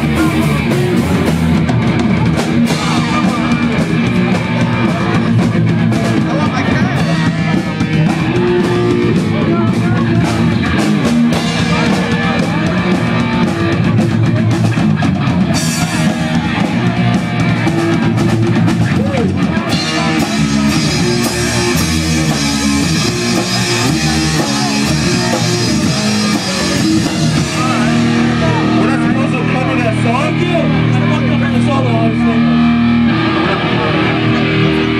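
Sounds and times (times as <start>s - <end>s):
punk rock band playing: 0.0s - 34.9s.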